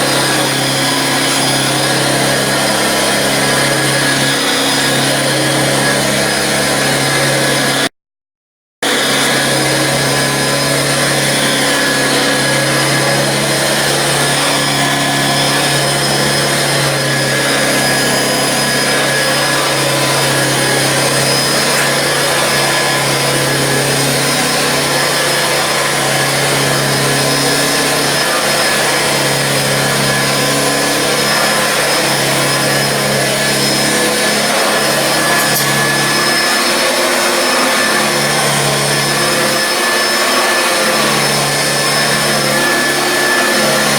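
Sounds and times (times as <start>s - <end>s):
vacuum cleaner motor hum: 0.0s - 7.9s, 8.8s - 43.9s.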